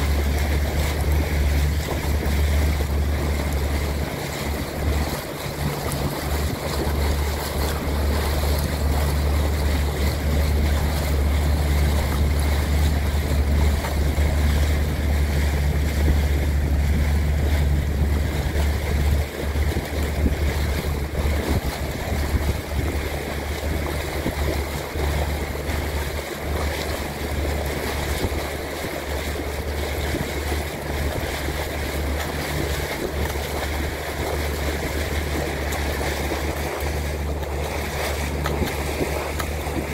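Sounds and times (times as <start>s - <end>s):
water noise: 0.0s - 39.9s
wind buffeting microphone: 0.0s - 39.9s.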